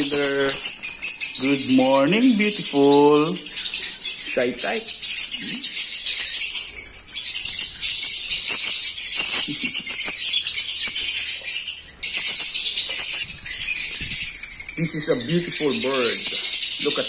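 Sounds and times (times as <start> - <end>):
lovebirds chattering and chirping: 0.0 - 17.0.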